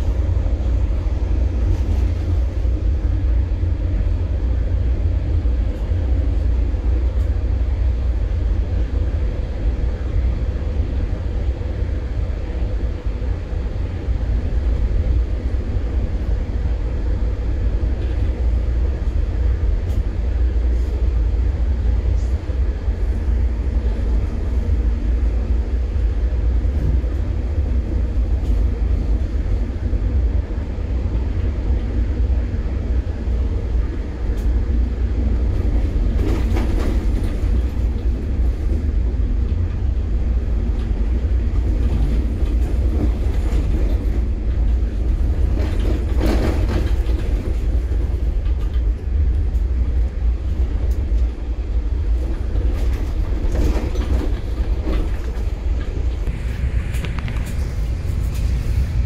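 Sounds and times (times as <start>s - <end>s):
train rattling: 0.0s - 59.0s
train running gear rumble: 0.0s - 59.0s.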